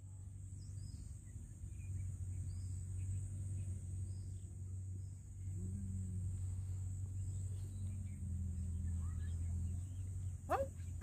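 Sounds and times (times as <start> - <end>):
high insect drone: 0.0 - 11.0
low steady rumble: 0.0 - 11.0.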